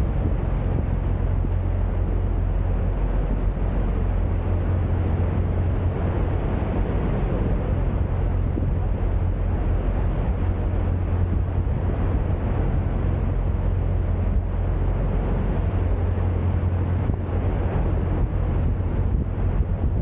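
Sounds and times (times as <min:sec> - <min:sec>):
boat engine humming: 0:00.0 - 0:20.0
wind over microphone: 0:00.0 - 0:20.0.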